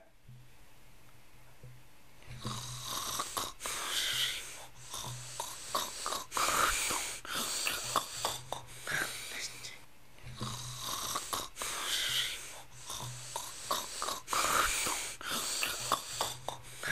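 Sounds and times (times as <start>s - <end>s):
low steady hum: 0.0s - 16.9s
person snoring: 2.3s - 16.9s.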